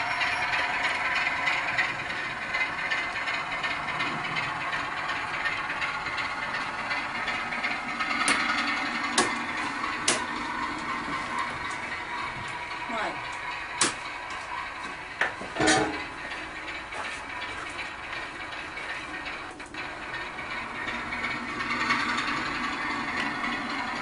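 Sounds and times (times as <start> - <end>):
model train motor whirring: 0.0 - 24.0.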